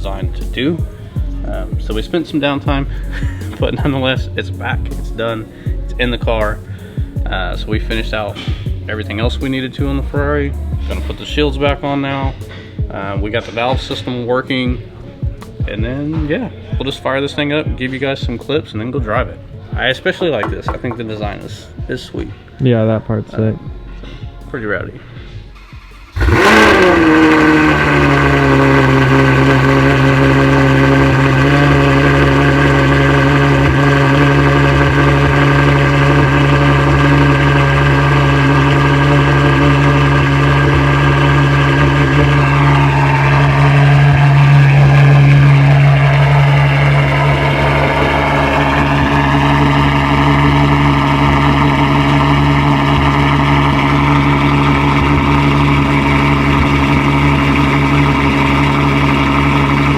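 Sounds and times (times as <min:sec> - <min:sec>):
car engine idling: 0:00.0 - 0:14.1, 0:20.4 - 0:21.9, 0:23.7 - 0:59.9.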